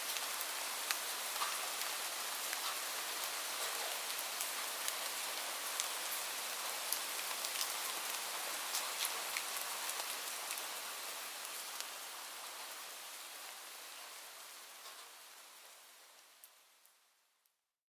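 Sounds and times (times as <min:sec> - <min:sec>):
light rain hissing: 0:00.0 - 0:17.5.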